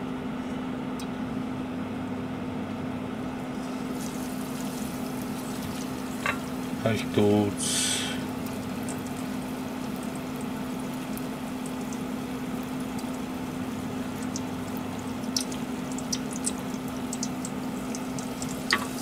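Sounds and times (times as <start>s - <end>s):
steady low hum: 0.0s - 19.0s
frying oil crackles: 3.4s - 19.0s
oil bubbling and hissing: 3.4s - 19.0s.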